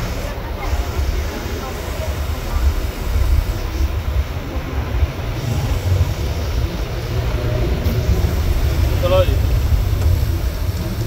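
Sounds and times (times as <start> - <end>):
vehicle and traffic rumble: 0.0 - 11.0.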